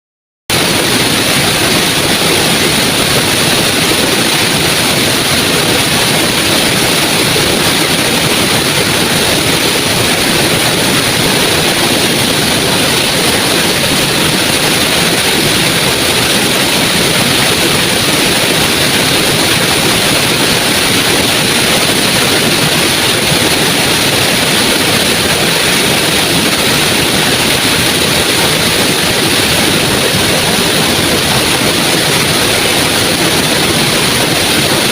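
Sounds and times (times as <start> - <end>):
waterfall rushing: 0.5 - 34.9.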